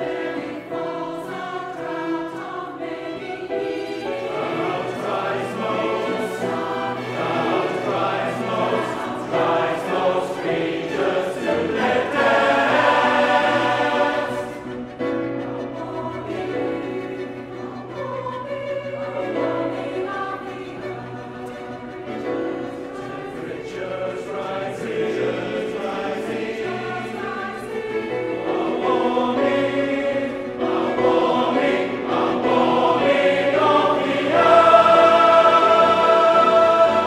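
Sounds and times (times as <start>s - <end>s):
large choir singing: 0.0s - 37.0s.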